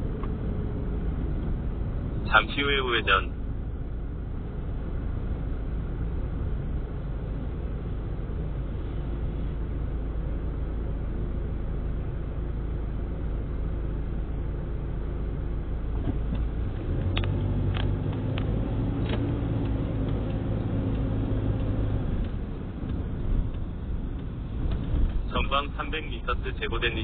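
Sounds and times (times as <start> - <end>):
car engine from inside cabin: 0.0 - 27.0.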